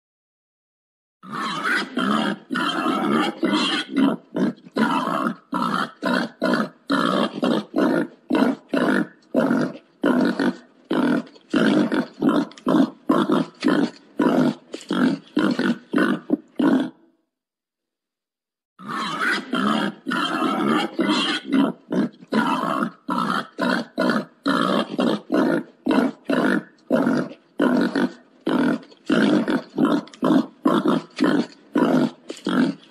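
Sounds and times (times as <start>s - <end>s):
wild boar grunting: 1.2s - 17.1s, 18.8s - 32.9s.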